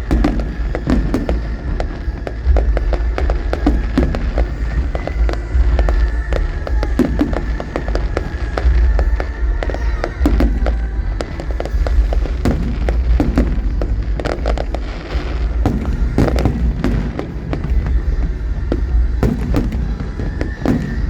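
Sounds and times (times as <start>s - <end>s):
fireworks bangs and crackles: 0.0s - 21.0s
music playing: 0.0s - 21.0s.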